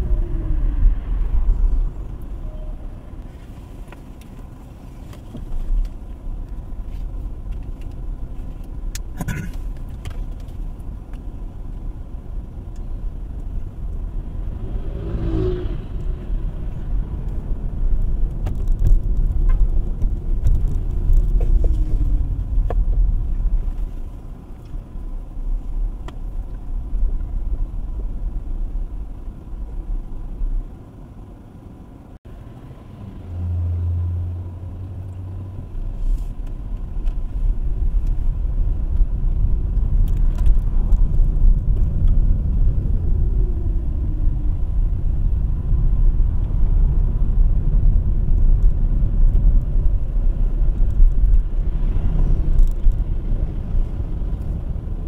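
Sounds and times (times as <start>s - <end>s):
car road and engine rumble: 0.0s - 55.0s
passing traffic: 0.0s - 55.0s.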